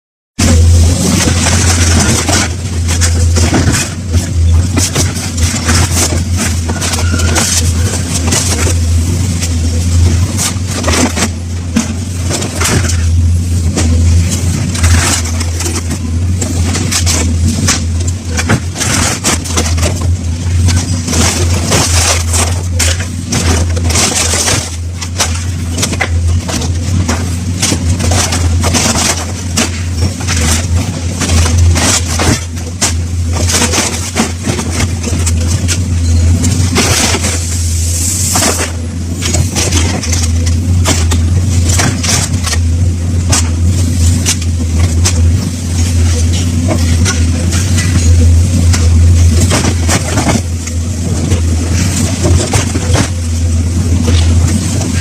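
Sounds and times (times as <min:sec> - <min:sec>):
heavy machine engine running: 0:00.4 - 0:55.0
scrap metal crunching and clanking: 0:00.4 - 0:55.0.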